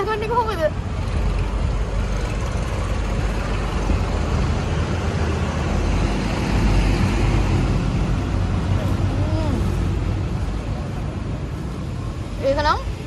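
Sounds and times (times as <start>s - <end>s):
vehicle engines rumbling by: 0.0s - 13.0s.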